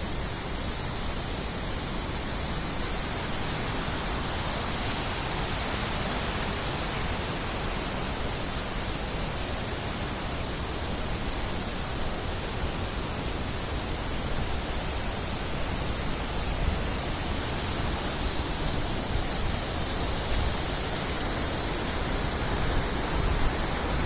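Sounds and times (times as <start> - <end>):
fast water rushing: 0.0 - 24.0.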